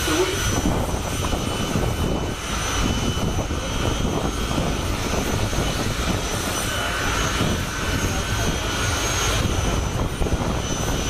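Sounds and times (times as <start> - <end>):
jet engine roaring with whine: 0.0 - 11.0.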